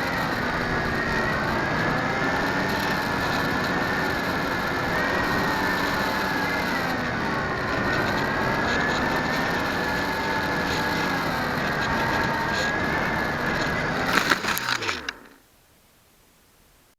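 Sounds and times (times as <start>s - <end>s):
electric model airplane motor whine: 0.0s - 15.4s.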